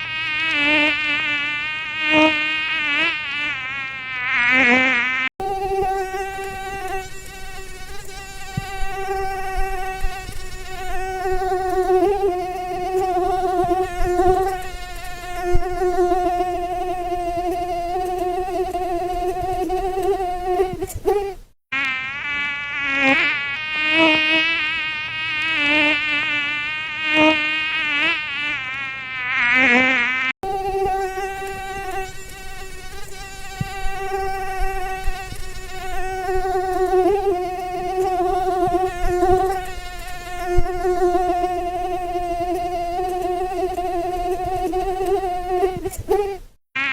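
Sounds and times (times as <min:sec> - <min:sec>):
mosquito wing whine: 0:00.0 - 0:46.9.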